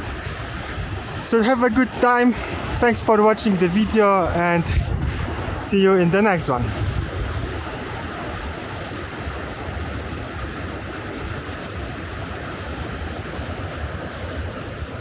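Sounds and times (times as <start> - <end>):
fast-flowing river rushing: 0.0 - 15.0
wind rumble on microphone: 0.0 - 15.0.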